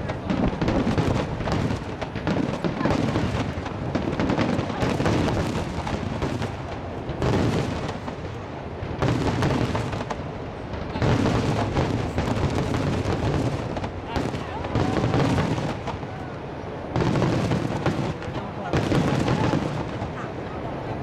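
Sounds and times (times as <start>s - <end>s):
fireworks booms: 0.0s - 21.0s
fireworks bursts and crackle: 0.0s - 21.0s.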